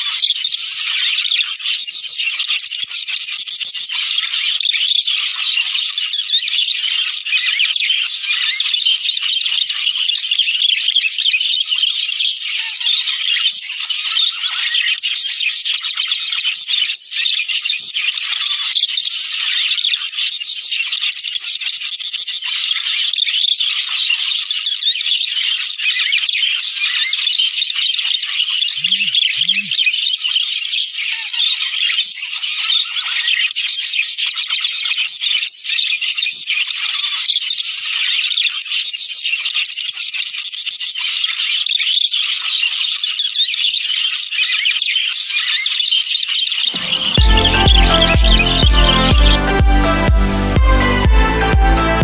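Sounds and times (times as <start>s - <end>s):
budgerigars chattering and warbling: 0.0s - 21.1s, 22.0s - 37.3s, 37.9s - 48.9s.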